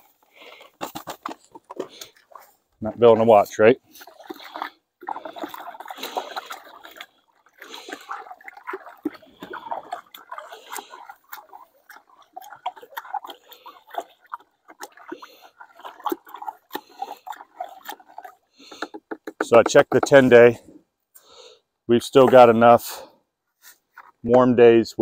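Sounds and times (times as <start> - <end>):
scraping in a bucket: 0.0 - 20.8, 22.0 - 24.4
water sloshing in a bucket: 0.0 - 20.9, 21.9 - 24.6.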